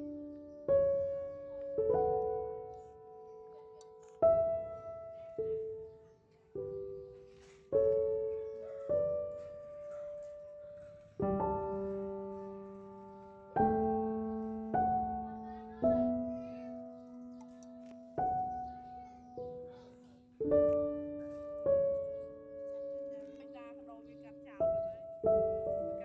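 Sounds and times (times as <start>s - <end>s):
gentle solo piano chords: 0.0s - 26.0s.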